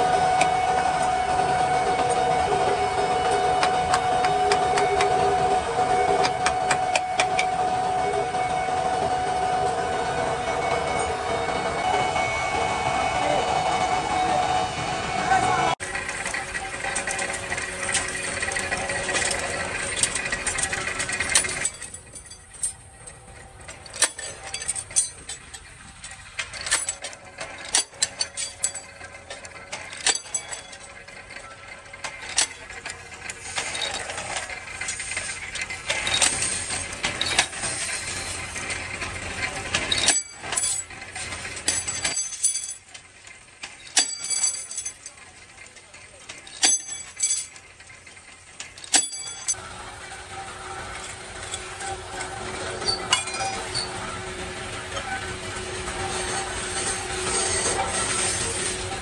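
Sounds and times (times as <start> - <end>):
factory machinery running: 0.0 - 59.0.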